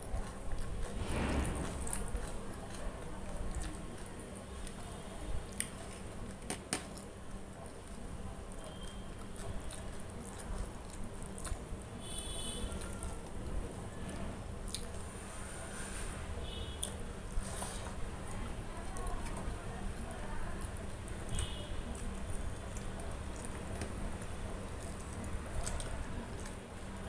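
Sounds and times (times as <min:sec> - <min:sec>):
chewing: 0:00.0 - 0:15.4, 0:16.7 - 0:27.0.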